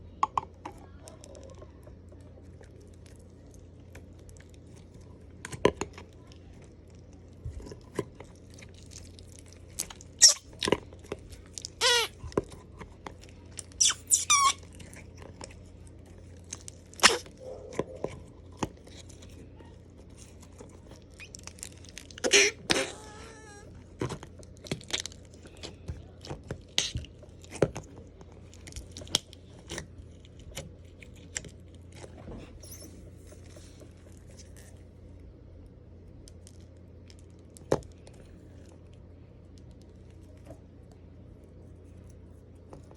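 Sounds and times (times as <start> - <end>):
slime squelching: 0.0 - 42.9.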